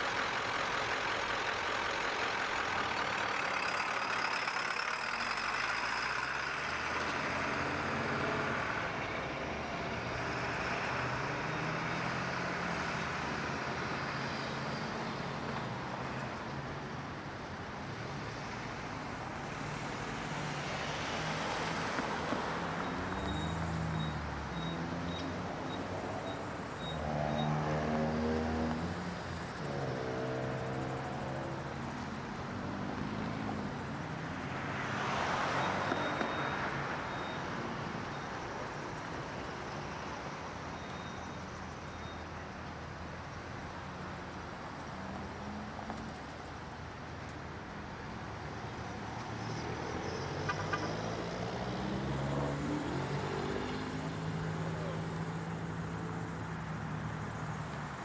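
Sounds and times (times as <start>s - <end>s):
heavy truck engines rumbling: 0.0s - 58.0s
vehicles swishing past: 0.0s - 58.0s.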